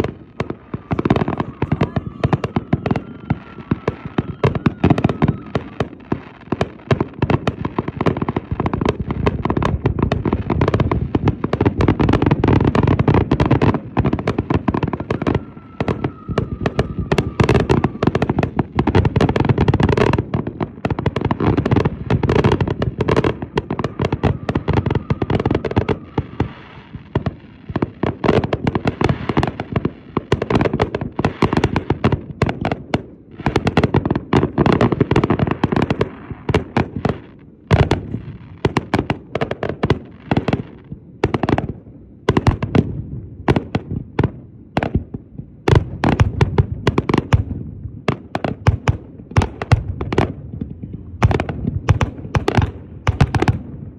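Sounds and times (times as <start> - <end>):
fireworks crackling: 0.0 - 44.2, 44.8 - 53.9
loud fireworks booms: 0.0 - 53.9.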